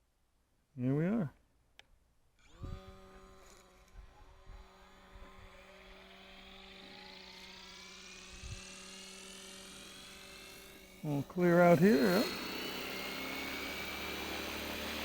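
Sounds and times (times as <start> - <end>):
low motor hum: 2.4 - 15.0
rc helicopter motor whine: 2.4 - 15.0.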